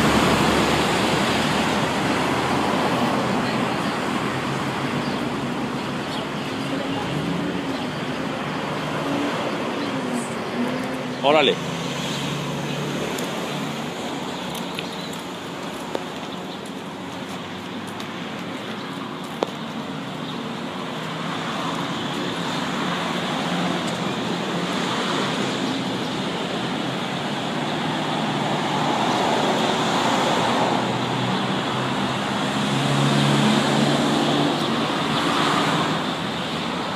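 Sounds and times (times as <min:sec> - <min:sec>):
street traffic: 0:00.0 - 0:36.9.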